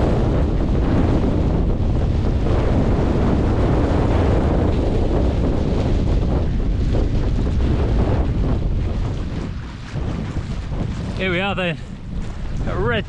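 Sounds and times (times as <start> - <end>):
storm wind buffeting microphone: 0.0 - 13.0.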